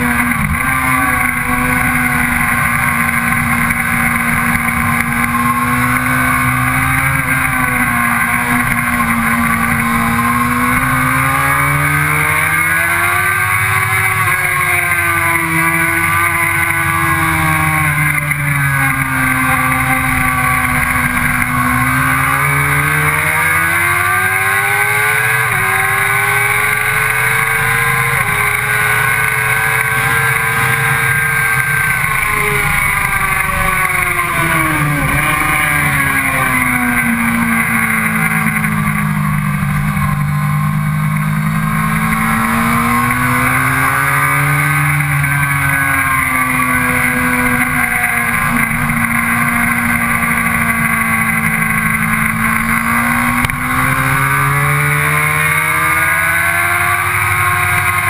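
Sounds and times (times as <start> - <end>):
sport motorcycle engine revving: 0.0 - 58.0.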